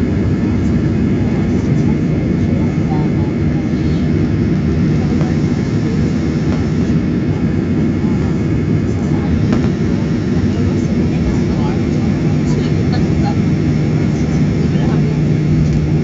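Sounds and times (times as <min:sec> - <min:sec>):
aircraft rolling rumble: 0:00.0 - 0:16.0
jet engines drone in cabin: 0:00.0 - 0:16.0.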